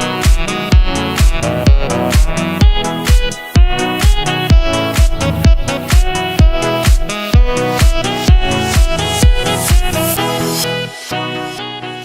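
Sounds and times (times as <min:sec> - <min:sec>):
steady kick drum: 0:00.0 - 0:10.2.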